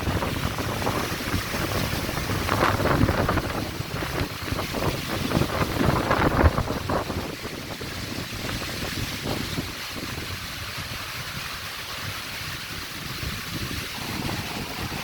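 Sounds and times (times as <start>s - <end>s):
wind buffeting microphone: 0.0s - 15.0s
wind rushing through trees: 0.0s - 15.0s.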